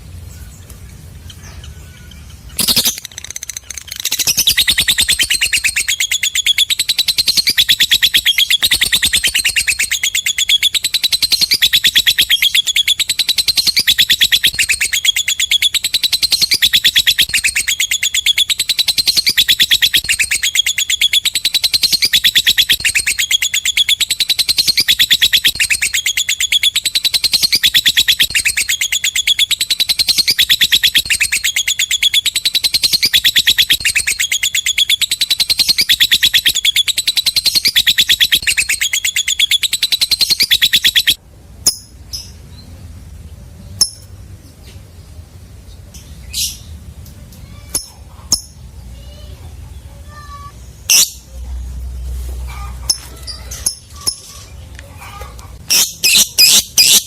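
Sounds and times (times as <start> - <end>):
faint bird chirps: 0.2 - 42.8, 47.4 - 57.0
bird chattering trill: 1.2 - 42.4, 50.0 - 51.4, 52.5 - 57.0.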